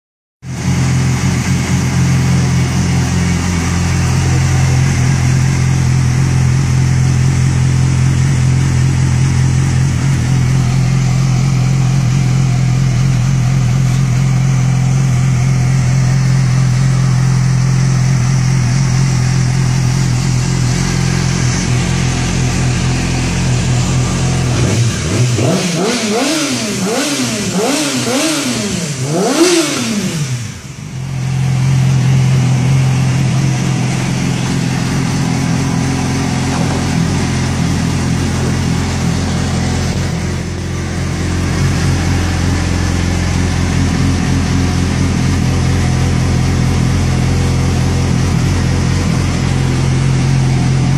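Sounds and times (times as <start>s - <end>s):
motorcycle engine idling and revving: 0.4s - 50.9s.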